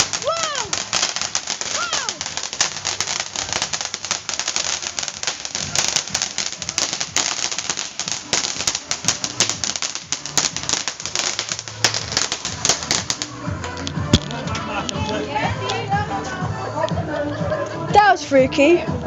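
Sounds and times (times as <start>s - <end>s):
firework crackling: 0.0s - 16.4s.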